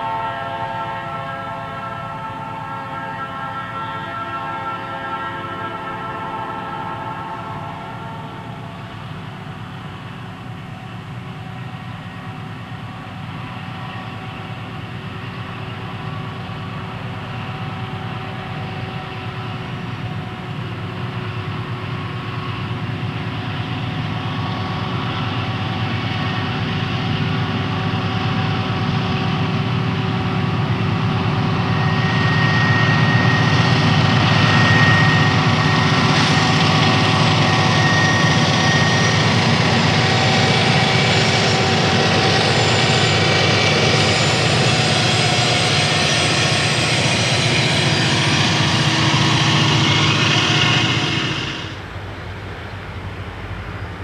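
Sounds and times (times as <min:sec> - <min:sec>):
diesel locomotives passing: 0:00.0 - 0:54.0.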